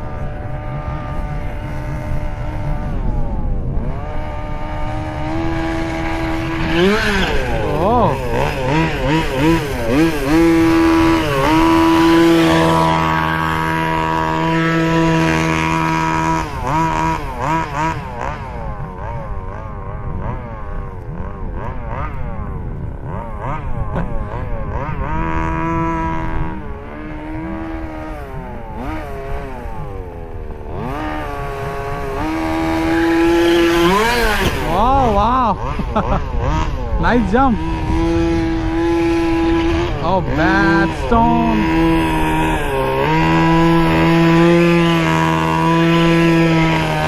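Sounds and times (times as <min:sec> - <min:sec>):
small two-stroke engine revving: 0:00.0 - 0:47.0.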